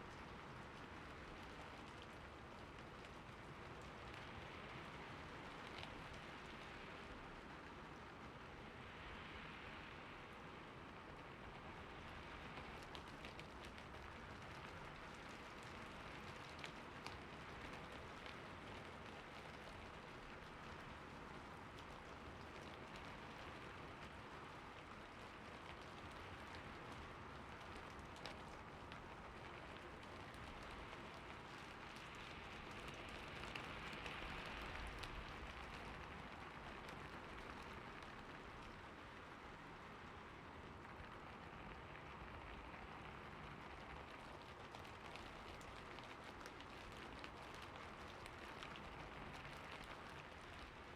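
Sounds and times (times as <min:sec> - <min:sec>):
raindrop ticks: 0:00.0 - 0:08.3, 0:11.1 - 0:50.9
soft rain: 0:00.0 - 0:50.9.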